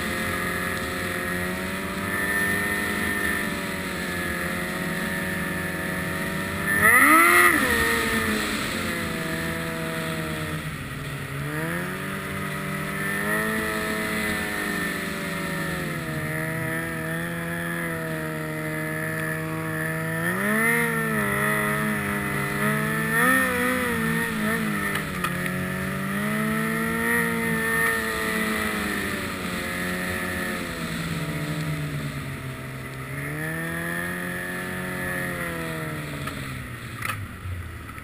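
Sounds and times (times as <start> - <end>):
snowmobile engine revving: 0.0 - 37.2.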